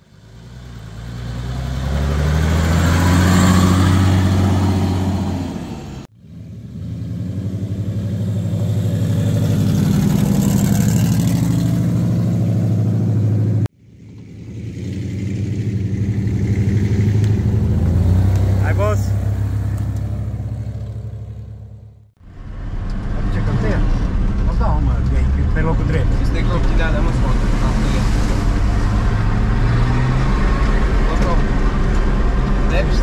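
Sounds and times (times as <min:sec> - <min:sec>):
off-road vehicle engine running: 0:00.0 - 0:33.0.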